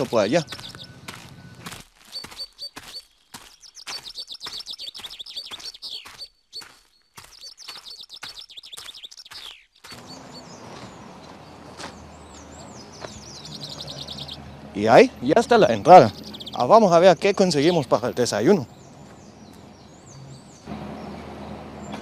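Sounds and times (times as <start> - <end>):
footsteps on dirt path: 0.0 - 20.6
bird chirping: 0.0 - 22.0.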